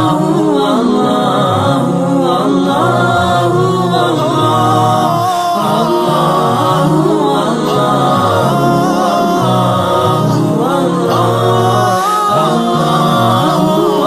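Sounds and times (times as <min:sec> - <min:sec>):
voices singing unaccompanied: 0:00.0 - 0:14.0.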